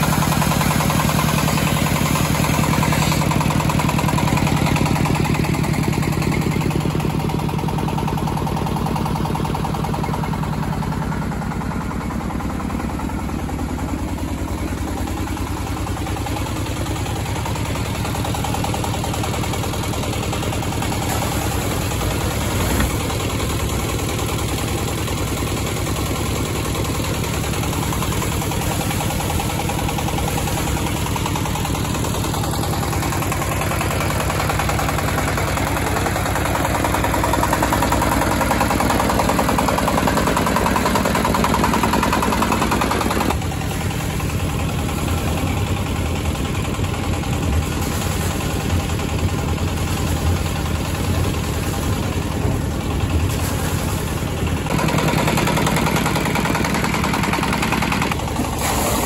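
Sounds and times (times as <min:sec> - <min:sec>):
diesel engine running: 0:00.0 - 0:59.0
water splashing from hose: 0:00.0 - 0:59.0.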